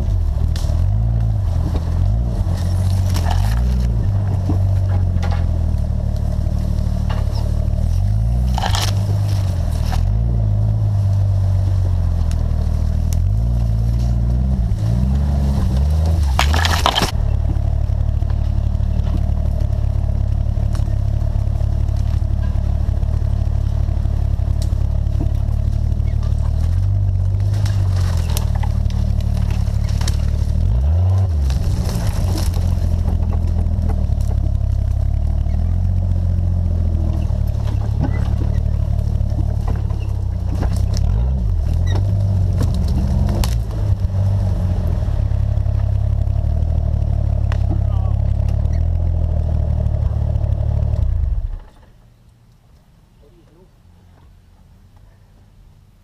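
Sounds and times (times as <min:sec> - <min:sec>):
vehicle clicks and rattles: 0:00.0 - 0:55.9
engine low rumble: 0:00.0 - 0:56.0.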